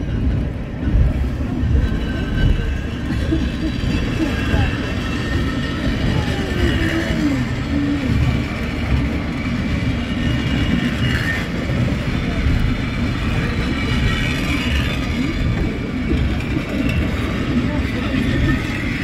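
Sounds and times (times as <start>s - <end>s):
funicular car rumbling on rails: 0.0s - 19.0s.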